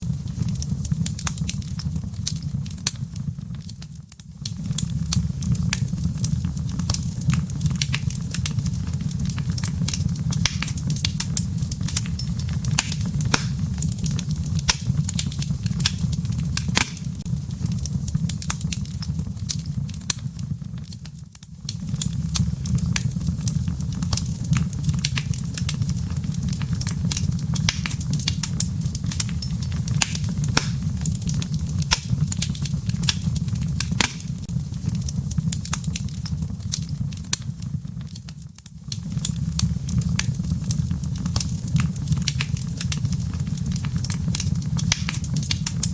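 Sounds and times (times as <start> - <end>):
burning logs crackling and popping: 0.0 - 45.9
low rumble of flames: 0.0 - 45.9.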